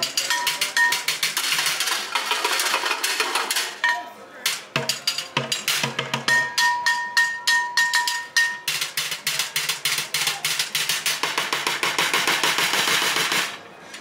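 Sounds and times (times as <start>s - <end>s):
drumsticks on plastic buckets: 0.0s - 14.0s.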